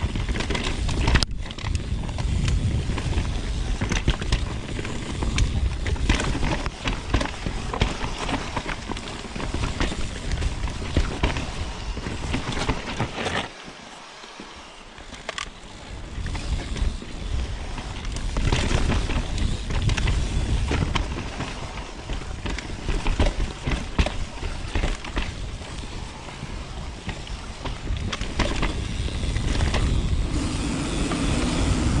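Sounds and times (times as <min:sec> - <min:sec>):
bike clattering over rough ground: 0:00.0 - 0:32.0
wind rumbling on microphone: 0:00.0 - 0:32.0.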